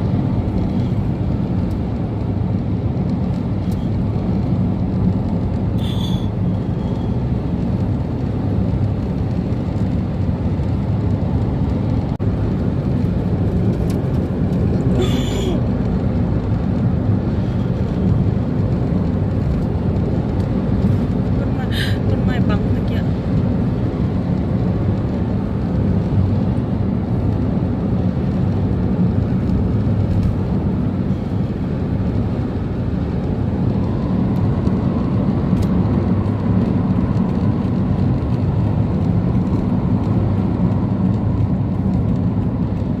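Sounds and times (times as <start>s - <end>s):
vehicle road and engine rumble: 0.0s - 43.0s.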